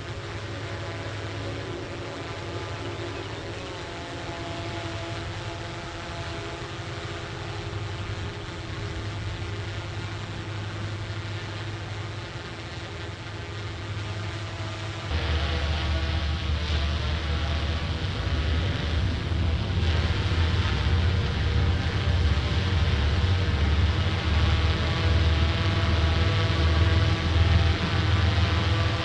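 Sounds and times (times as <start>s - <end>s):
steady tones: 0.0s - 29.0s.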